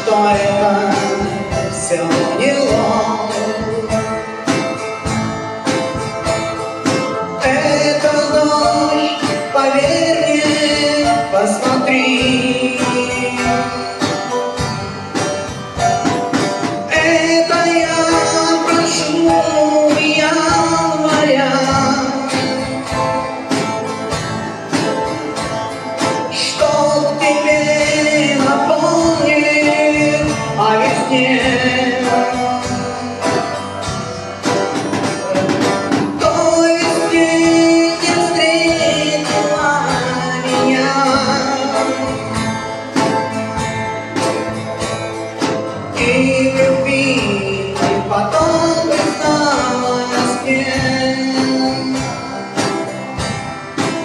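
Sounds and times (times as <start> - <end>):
electric guitar lead line: 0.0 - 54.0
live rock band: 0.0 - 54.0.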